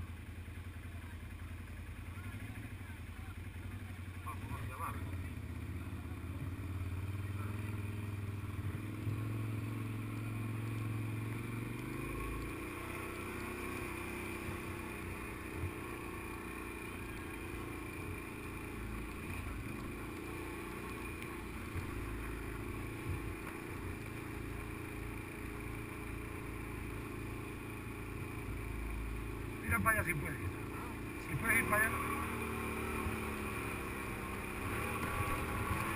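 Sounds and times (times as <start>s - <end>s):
quad bike engine running: 0.0s - 35.9s.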